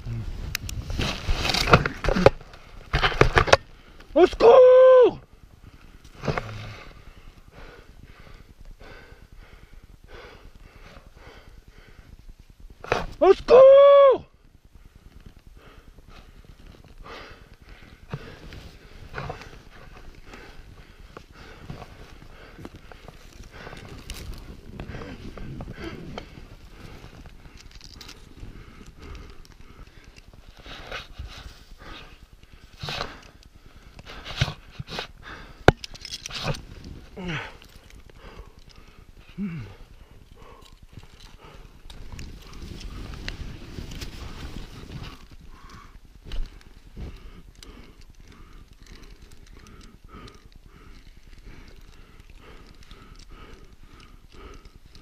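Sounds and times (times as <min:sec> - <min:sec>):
person breathing quickly: 0:05.4 - 0:12.4, 0:14.6 - 0:55.0.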